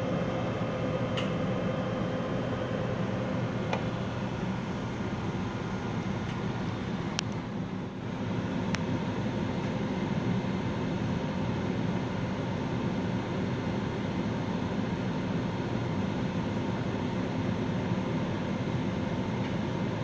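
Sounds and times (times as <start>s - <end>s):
mechanical hum and whir: 0.0s - 20.0s.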